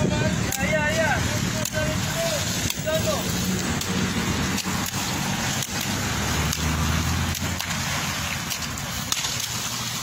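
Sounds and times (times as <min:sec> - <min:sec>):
water splashing and slapping: 0:00.0 - 0:10.0.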